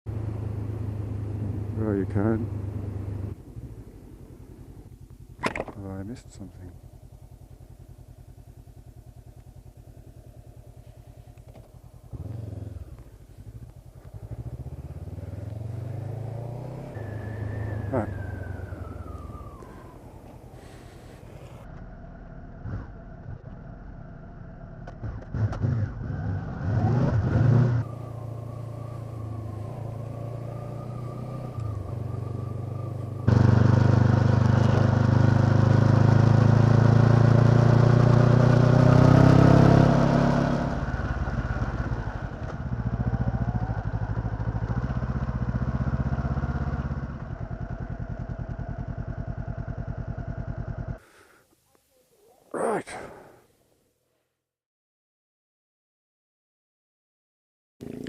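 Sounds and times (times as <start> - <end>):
motorcycle engine accelerating: 0.1 - 51.1.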